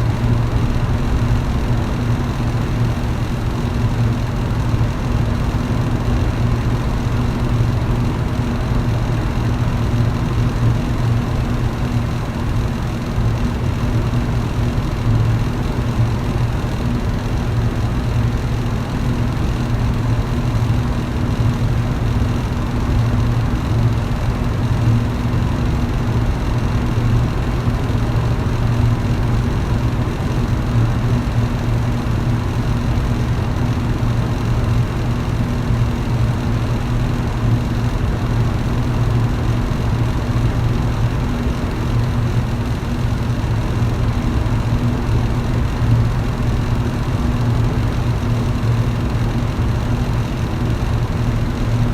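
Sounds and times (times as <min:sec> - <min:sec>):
electric fan running: 0:00.0 - 0:51.9.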